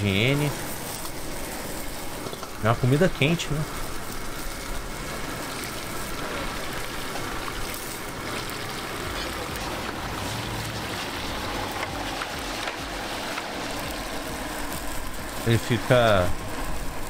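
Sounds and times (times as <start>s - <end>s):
hot oil sizzling in a wok: 0.0s - 17.0s.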